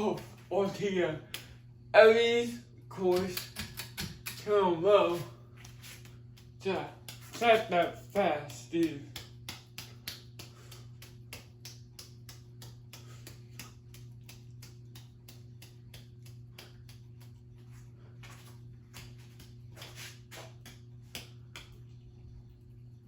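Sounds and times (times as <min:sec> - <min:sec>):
ceiling fan humming and ticking: 0:00.0 - 0:23.0.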